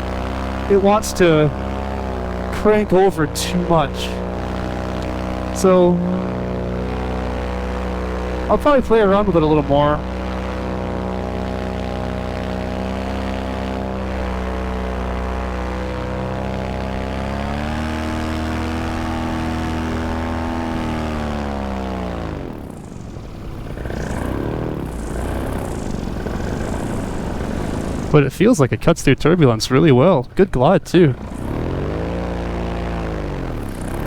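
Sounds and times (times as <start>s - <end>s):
paramotor engine and propeller: 0.0s - 34.0s.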